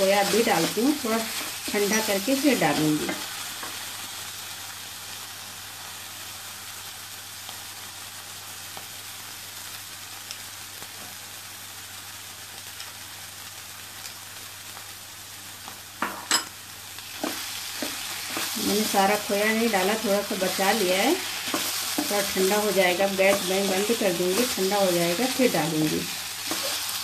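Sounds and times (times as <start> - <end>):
halwa sizzling in pan: 0.0 - 27.0.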